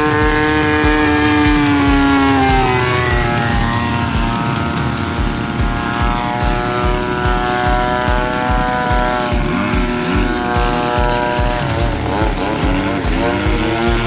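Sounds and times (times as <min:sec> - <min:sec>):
model plane engine and propeller: 0:00.0 - 0:14.0.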